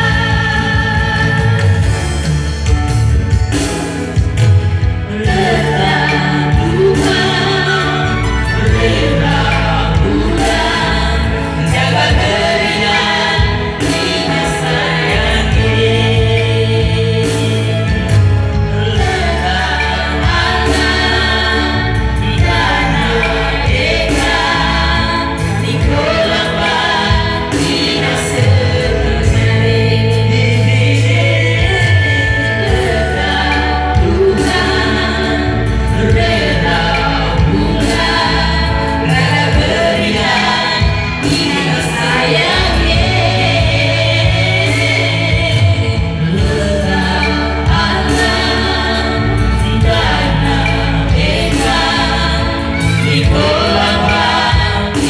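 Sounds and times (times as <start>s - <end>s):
man and woman singing a duet: 0.0s - 2.7s, 3.5s - 55.0s.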